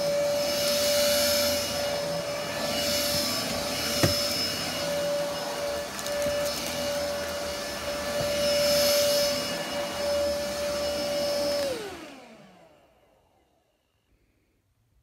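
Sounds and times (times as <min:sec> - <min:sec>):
stick vacuum cleaner whining: 0:00.0 - 0:13.7.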